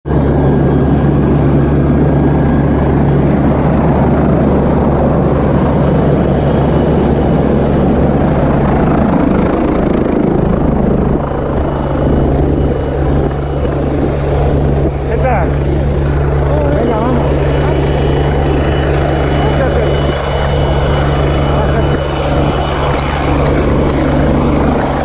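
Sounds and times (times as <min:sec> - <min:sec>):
helicopter rotor and engine drone: 0:00.0 - 0:25.0.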